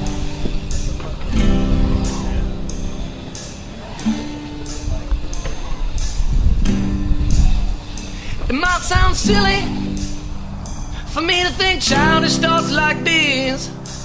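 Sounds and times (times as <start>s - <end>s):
music with sustained chords: 0.0s - 14.0s.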